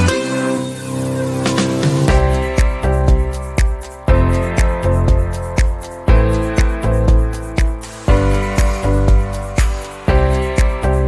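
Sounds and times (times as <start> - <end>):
held music chords: 0.0 - 11.0.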